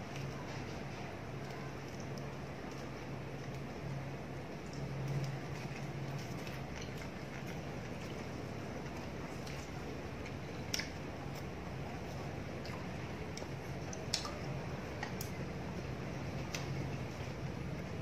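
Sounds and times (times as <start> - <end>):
soft chewing and mouth sounds: 0.0 - 18.0
steady low hum: 0.0 - 18.0.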